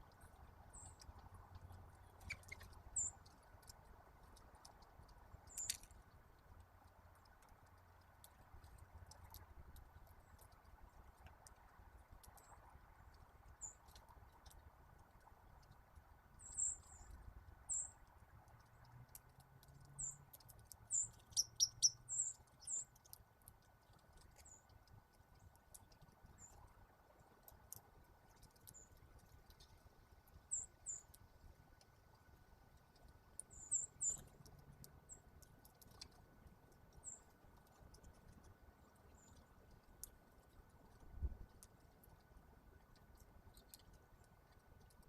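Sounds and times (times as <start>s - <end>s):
songbirds chip notes: 0.0s - 31.3s, 32.8s - 45.0s
faint clicks: 0.0s - 45.0s.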